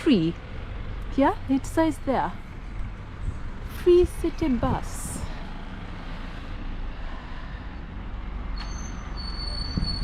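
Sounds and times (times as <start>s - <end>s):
bus engine rumbling: 0.0s - 10.0s.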